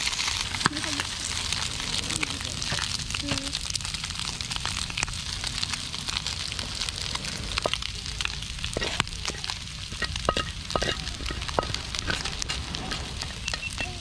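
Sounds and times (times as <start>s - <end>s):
food sizzling on a hot plate: 0.0s - 14.0s.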